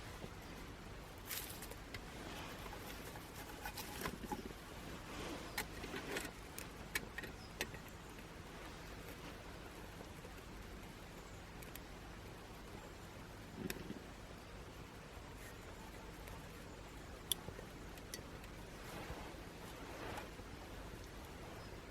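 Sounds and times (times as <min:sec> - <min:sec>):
soft rustling: 0:00.0 - 0:11.0, 0:15.2 - 0:21.9
twig fire crackling: 0:00.0 - 0:21.9.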